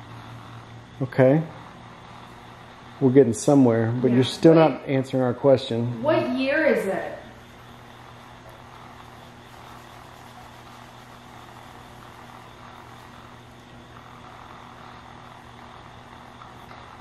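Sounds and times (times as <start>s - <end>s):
low hum: 0.0s - 17.0s
radio static hiss: 0.0s - 17.0s.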